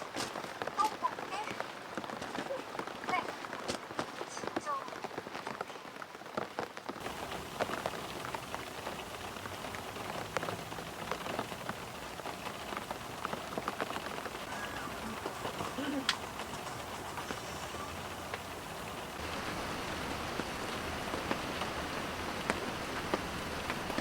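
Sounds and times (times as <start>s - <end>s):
raindrops striking a surface: 0.0s - 24.0s.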